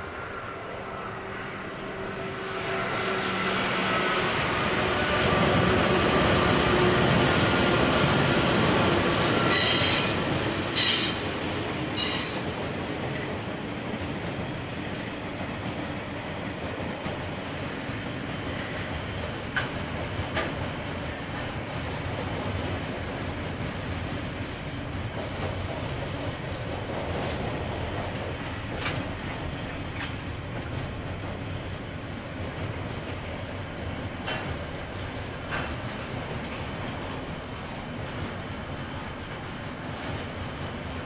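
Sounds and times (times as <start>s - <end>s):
diesel locomotive engine hum: 0.0s - 41.0s
wheels rumbling on rails: 1.5s - 41.0s.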